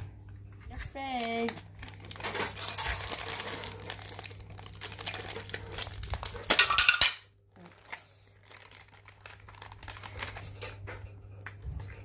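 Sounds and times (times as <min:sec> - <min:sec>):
plastic bags crinkling: 0:00.3 - 0:11.7.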